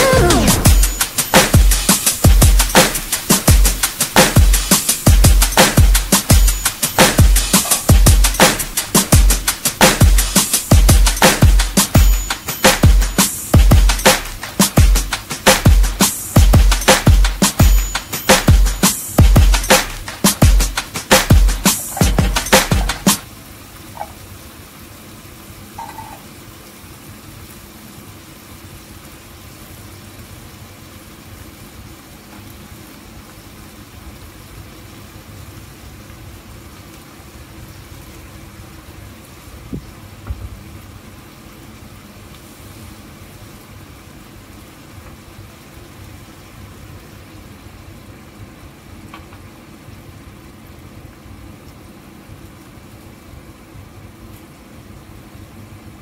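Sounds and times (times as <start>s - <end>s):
sauce bubbling and sizzling in pan: 0.7s - 56.0s.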